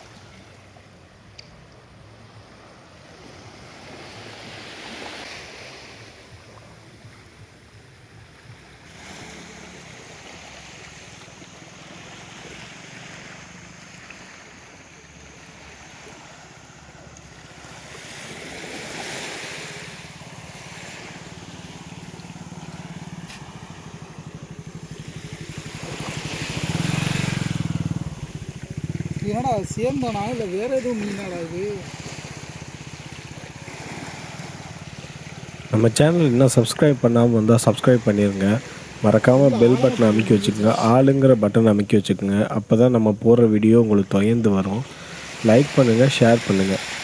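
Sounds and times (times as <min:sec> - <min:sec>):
low engine hum: 0:00.0 - 0:47.0
small waves washing on beach: 0:00.0 - 0:47.0.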